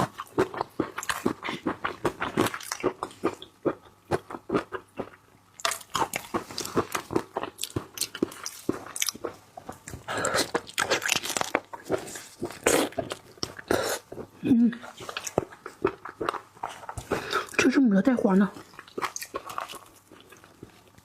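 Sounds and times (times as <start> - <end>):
crunching and chewing crab: 0.0 - 17.7, 18.6 - 21.0.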